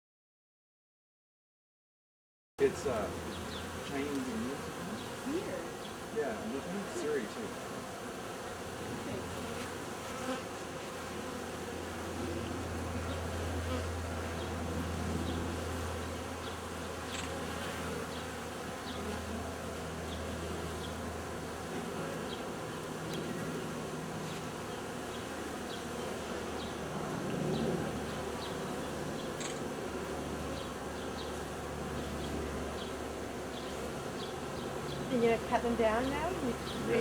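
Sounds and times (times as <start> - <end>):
bee swarm buzzing: 2.6 - 37.0.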